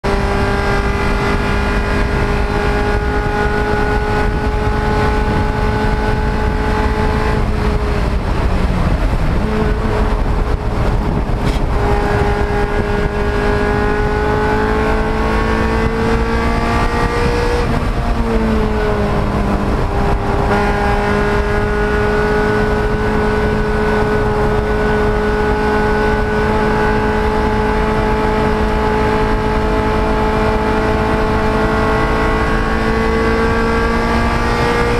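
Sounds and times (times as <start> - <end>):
race car engine at high revs: 0.0 - 34.9
wind and road noise: 0.0 - 34.9.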